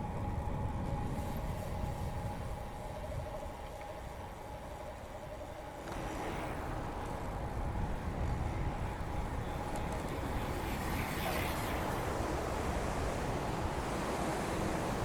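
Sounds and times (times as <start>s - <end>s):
bicycle tyres rumbling on pavement: 0.0s - 15.0s
wind rushing over microphone: 0.0s - 15.0s.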